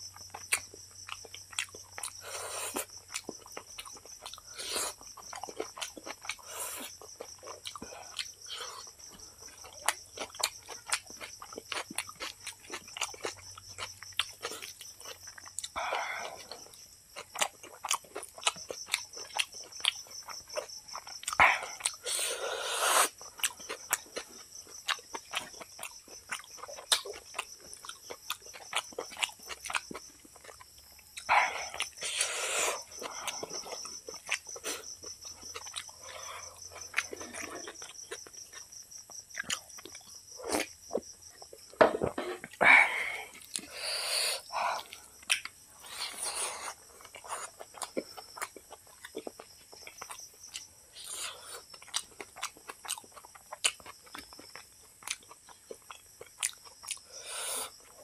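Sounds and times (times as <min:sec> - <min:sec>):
person chewing wetly: 0:00.0 - 0:41.8, 0:42.4 - 0:58.0.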